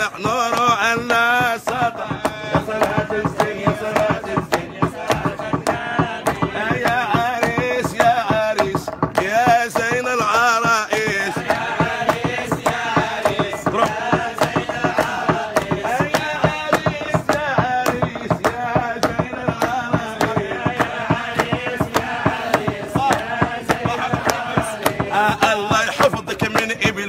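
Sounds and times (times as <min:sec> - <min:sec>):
hand percussion beat: 0:00.0 - 0:27.0
man singing: 0:00.0 - 0:27.0.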